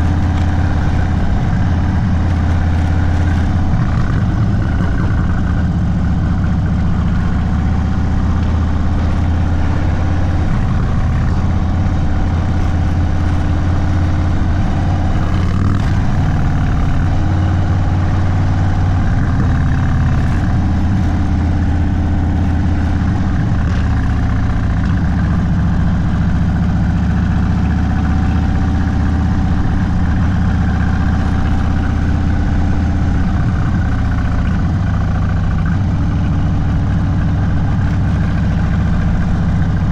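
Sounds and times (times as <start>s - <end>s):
motorcycle engine at low revs: 0.0s - 39.9s.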